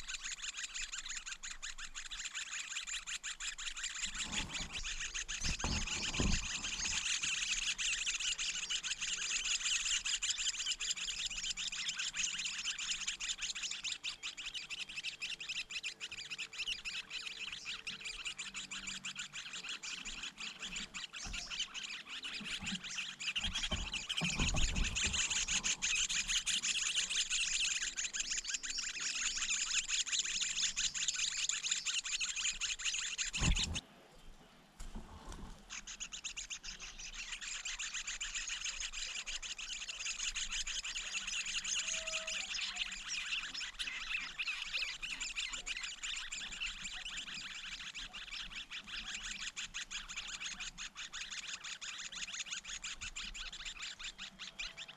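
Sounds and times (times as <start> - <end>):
nestlings chirping high-pitched: 0.0 - 33.8, 35.5 - 54.9.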